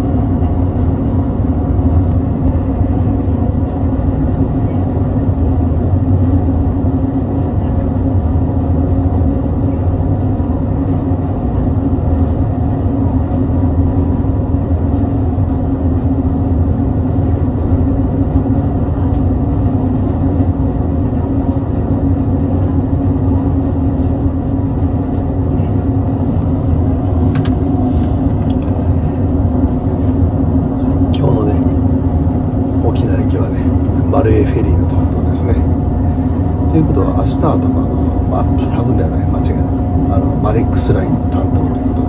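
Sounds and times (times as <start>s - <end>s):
ship diesel engines droning: 0.0s - 42.0s.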